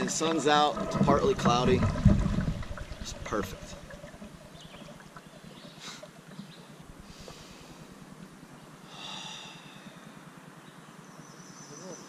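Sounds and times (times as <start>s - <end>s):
faint river ambience: 0.0s - 12.0s.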